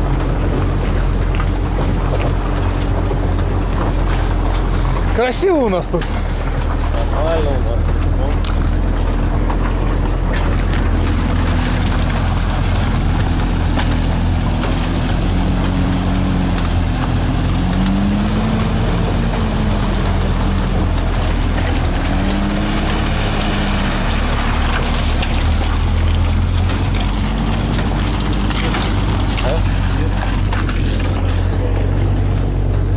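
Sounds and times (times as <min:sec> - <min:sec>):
suv engine revving: 0:00.0 - 0:32.9
water washing: 0:00.0 - 0:32.9.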